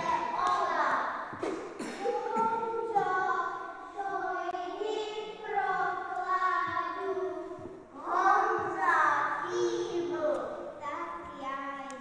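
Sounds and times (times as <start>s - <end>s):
children singing: 0.0s - 10.3s.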